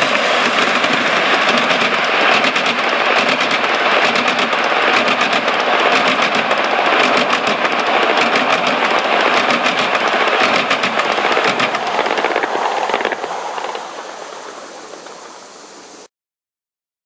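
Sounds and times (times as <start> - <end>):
train wheels clattering over rail joint: 0.0 - 13.9.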